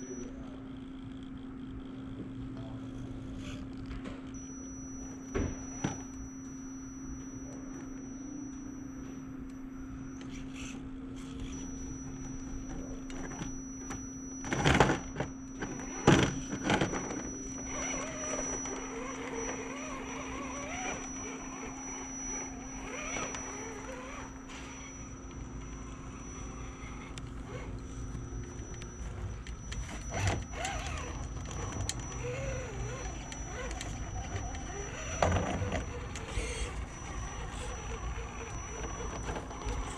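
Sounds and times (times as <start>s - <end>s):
electric motor whining: 4.4s - 8.6s, 10.0s - 39.9s
low hum: 4.4s - 39.9s.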